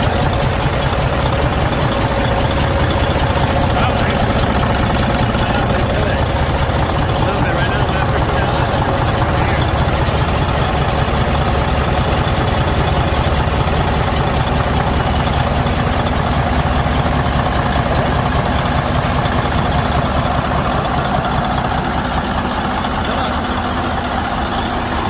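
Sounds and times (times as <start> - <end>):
diesel engine idling with knocking: 0.0 - 25.0.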